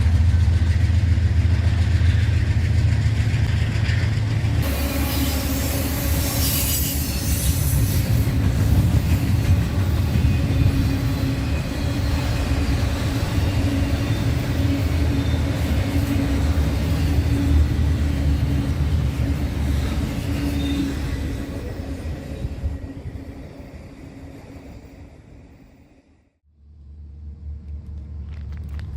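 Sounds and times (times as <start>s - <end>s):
freight train cars rolling: 0.0s - 26.0s
train wheel squeal: 0.0s - 26.2s.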